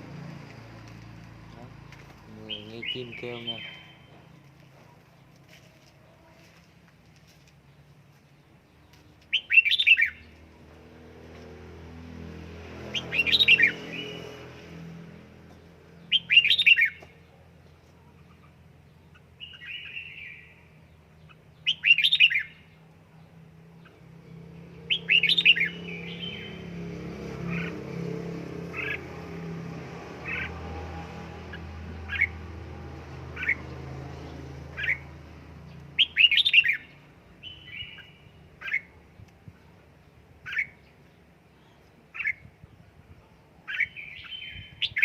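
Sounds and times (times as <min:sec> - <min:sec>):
bird singing warbled phrases: 0:01.2 - 0:05.3, 0:07.6 - 0:10.5, 0:12.8 - 0:14.5, 0:15.4 - 0:29.4, 0:30.0 - 0:45.0.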